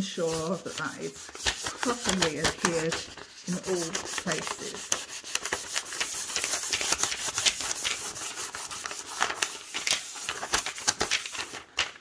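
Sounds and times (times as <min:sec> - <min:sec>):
plastic film rubbing on surface: 0:00.0 - 0:12.0.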